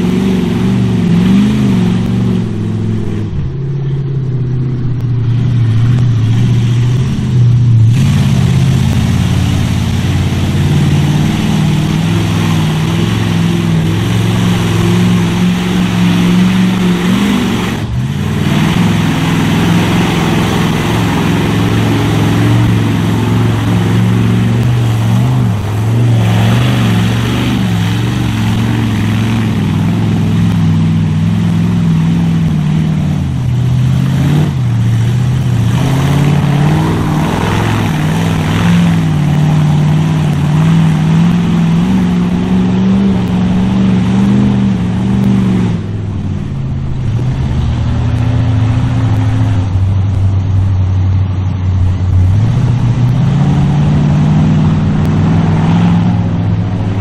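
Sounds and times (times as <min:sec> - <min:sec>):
rushing mud and water spray: 0:00.0 - 0:57.0
truck engine revving: 0:00.0 - 0:57.0.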